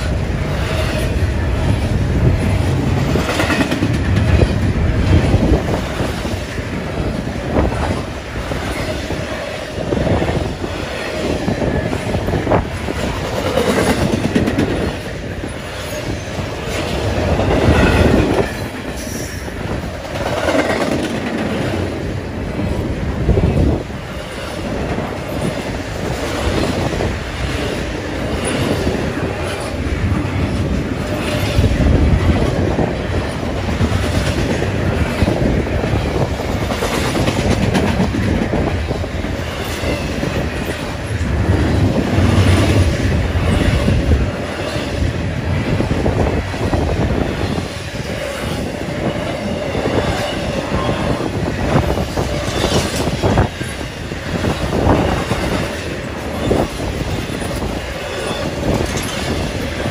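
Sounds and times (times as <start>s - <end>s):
freight train rumbling: 0.0s - 59.9s
wheels clacking over rail joints: 0.0s - 59.9s.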